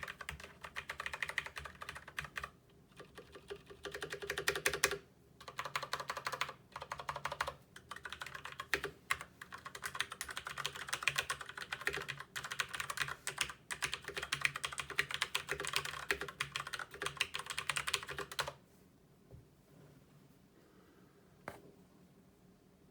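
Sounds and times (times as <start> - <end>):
fast mechanical keyboard typing: 0.0 - 18.6.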